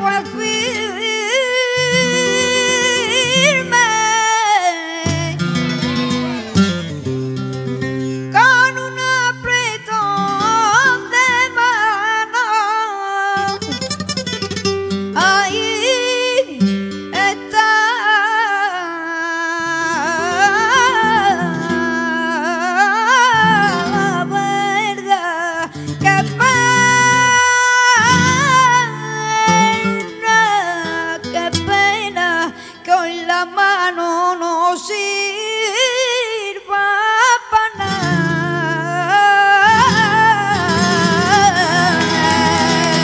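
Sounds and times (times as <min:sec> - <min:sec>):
boy singing into a microphone: 0:00.0 - 0:06.5, 0:08.3 - 0:13.8, 0:15.2 - 0:43.0
guitar accompaniment: 0:00.0 - 0:36.4, 0:37.5 - 0:43.0.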